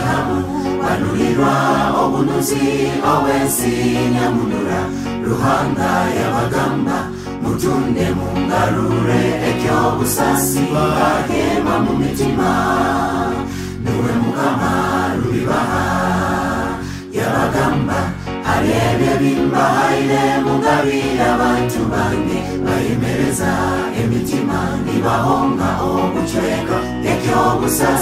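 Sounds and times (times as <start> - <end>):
mixed choir singing gospel: 0.0 - 28.0.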